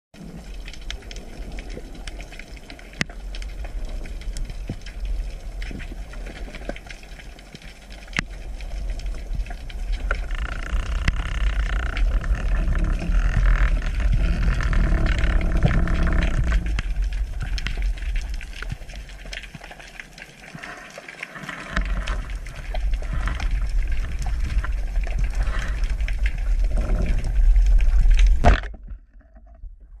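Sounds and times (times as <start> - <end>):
small underwater clicks: 0.2 - 30.0
underwater rumble of water: 0.2 - 30.0.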